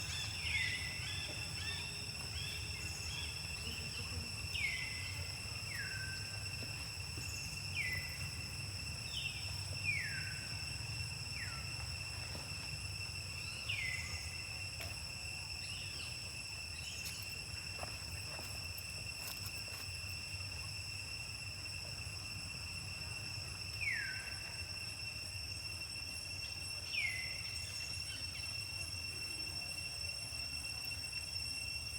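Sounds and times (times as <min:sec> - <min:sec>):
high insect-like drone: 0:00.0 - 0:31.9.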